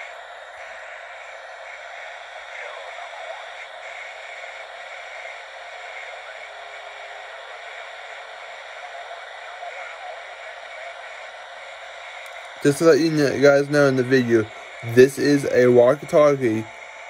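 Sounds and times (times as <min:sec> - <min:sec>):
walkie-talkie static hiss: 0:00.0 - 0:17.0.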